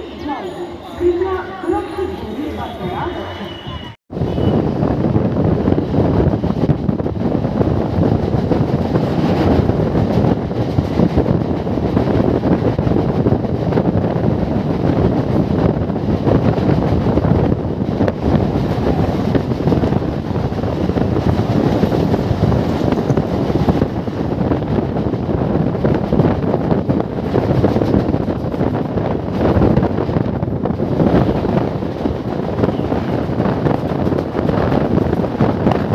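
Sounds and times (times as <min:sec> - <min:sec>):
train running on rails: 0:00.0 - 0:35.9
wind buffeting microphone: 0:04.0 - 0:35.9.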